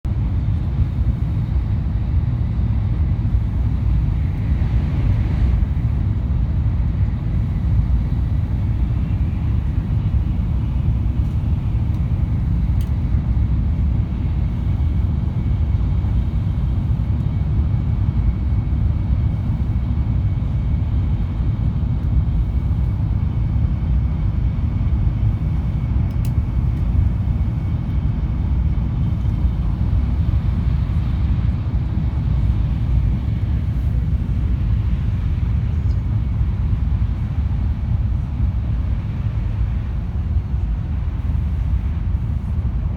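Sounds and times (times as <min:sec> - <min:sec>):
train rumble inside carriage: 0:00.0 - 0:42.9.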